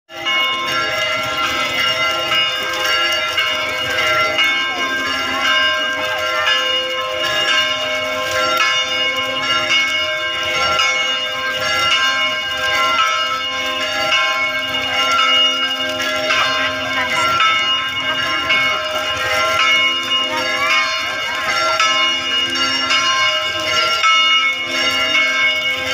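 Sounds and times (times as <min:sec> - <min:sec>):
church bells ringing: 0:00.1 - 0:25.9
murmur of large crowd: 0:00.1 - 0:25.9.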